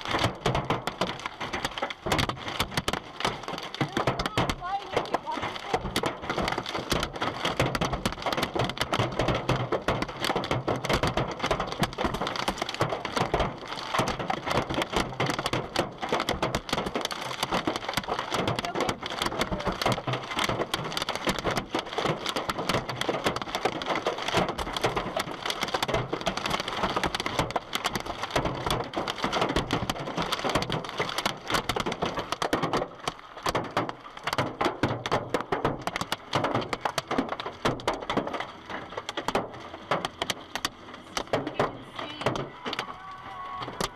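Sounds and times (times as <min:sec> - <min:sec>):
hailstones pelting hard surfaces: 0:00.0 - 0:43.9.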